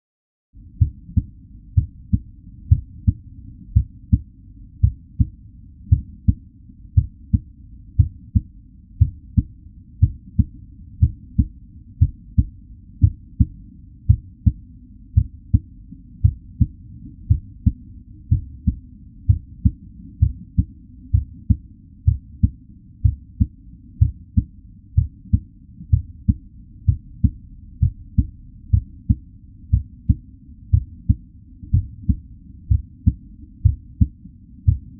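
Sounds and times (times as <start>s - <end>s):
heartbeat double thumps: 0.7s - 6.4s, 7.0s - 14.6s, 15.2s - 34.9s.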